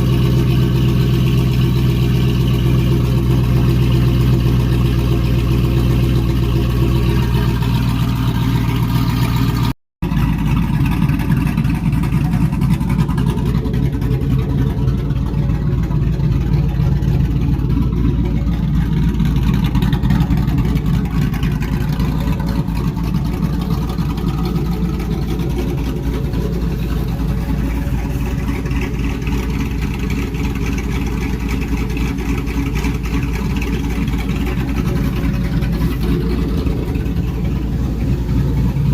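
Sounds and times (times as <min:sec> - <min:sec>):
truck engine idling with lope: 0:00.0 - 0:38.9.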